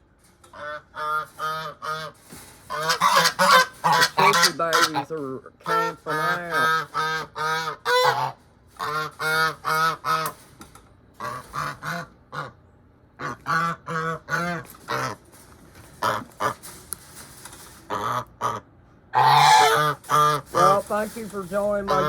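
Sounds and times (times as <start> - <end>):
geese honking: 0.5 - 10.5, 11.2 - 12.6, 13.2 - 16.9, 17.8 - 22.0.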